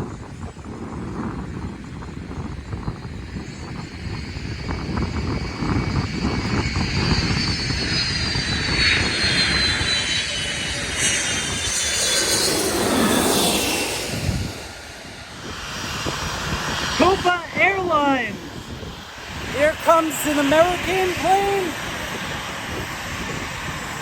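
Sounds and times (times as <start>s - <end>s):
jet engines whining overhead: 0.0s - 24.0s
low rumble: 1.3s - 24.0s.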